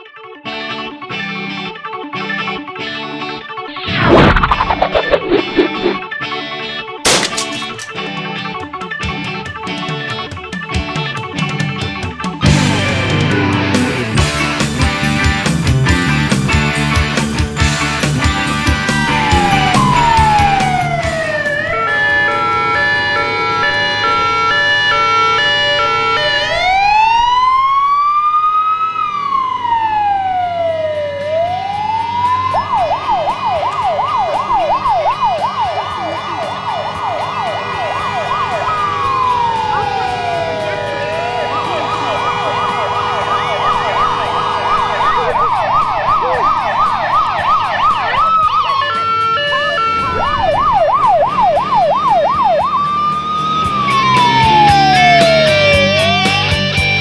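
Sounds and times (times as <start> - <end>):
fire engine sirens: 3.7 - 6.1, 12.4 - 56.8.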